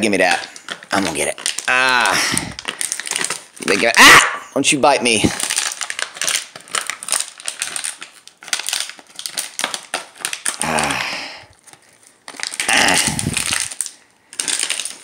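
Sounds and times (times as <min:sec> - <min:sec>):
plastic bottle crackling: 0:00.0 - 0:04.2, 0:05.1 - 0:15.0.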